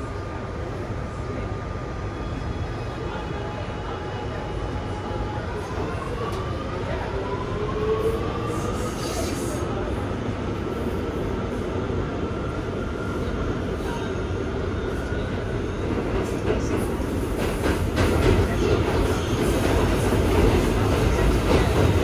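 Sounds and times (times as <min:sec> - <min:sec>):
subway train rumbling on rails: 0:00.0 - 0:22.0.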